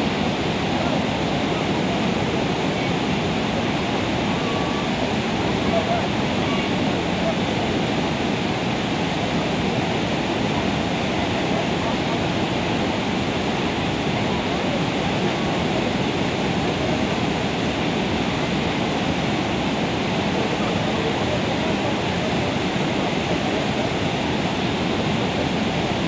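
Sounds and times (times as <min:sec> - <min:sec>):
waterfall rushing into creek: 0:00.0 - 0:26.0.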